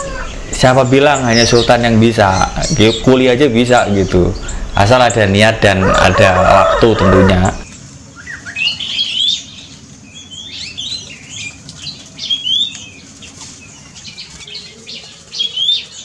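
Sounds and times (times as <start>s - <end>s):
birds chirping and whistling: 0.0s - 16.0s.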